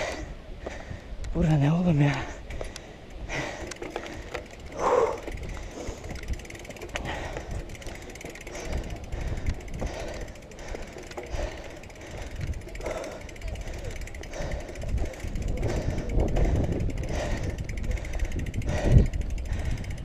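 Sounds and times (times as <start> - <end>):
bike frame rattling: 0.0 - 20.0.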